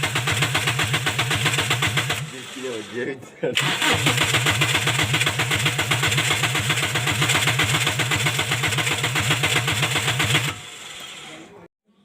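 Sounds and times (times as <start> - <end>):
starter motor cranking engine: 0.0 - 11.7.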